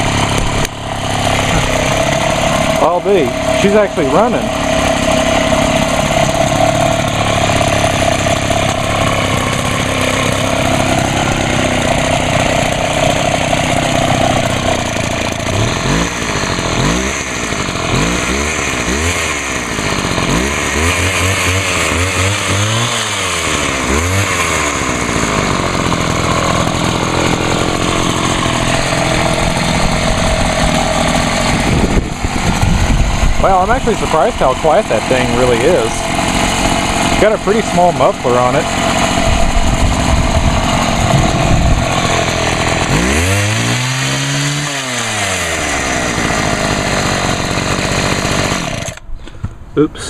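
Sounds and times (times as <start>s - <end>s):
hedge trimmer engine revving: 0.0s - 49.2s.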